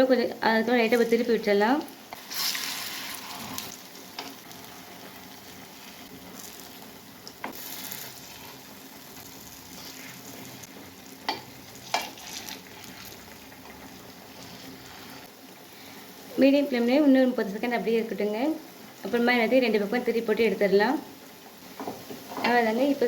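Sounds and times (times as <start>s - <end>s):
food sizzling in ghee: 0.0s - 23.0s.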